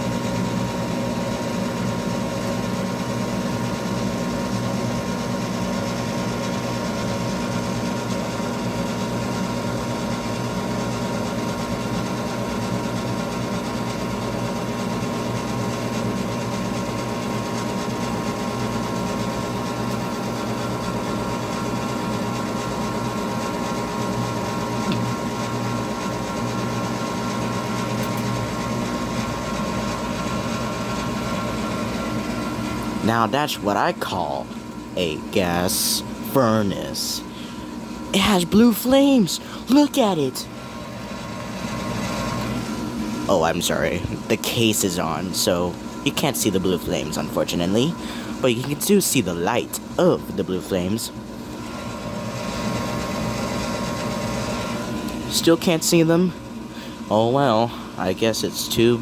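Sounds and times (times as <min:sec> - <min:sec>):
furnace motor hum: 0:00.0 - 0:59.0.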